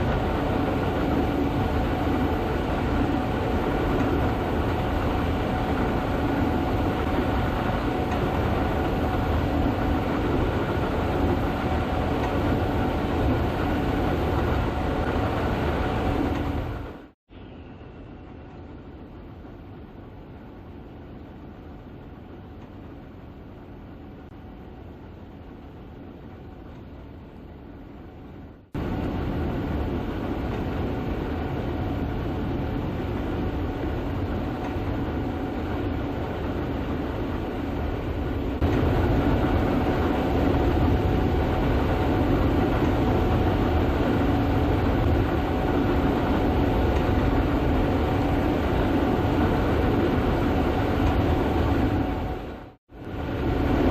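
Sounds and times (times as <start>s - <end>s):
combine harvester drone: 0.0s - 53.9s.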